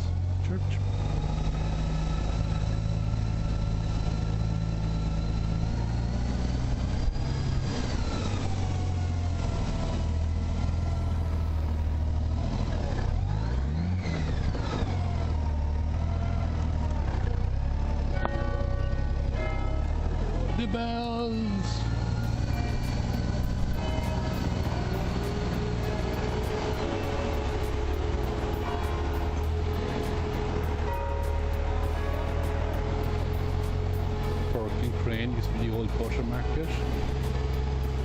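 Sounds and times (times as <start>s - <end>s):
vehicle engine revving: 0.0s - 38.0s.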